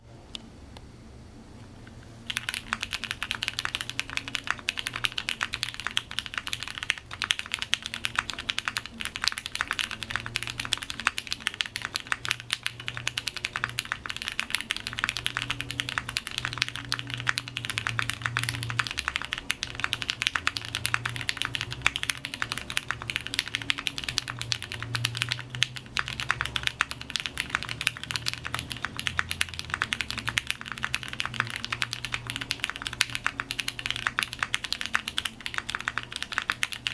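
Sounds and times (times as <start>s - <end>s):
fast mechanical keyboard typing: 2.2s - 36.9s.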